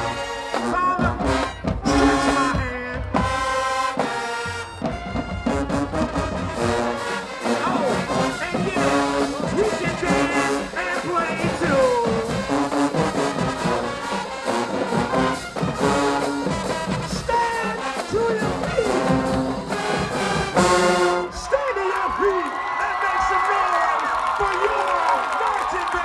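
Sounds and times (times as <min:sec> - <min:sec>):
drumline: 0:00.0 - 0:26.0
marching band brass tune: 0:00.0 - 0:26.0.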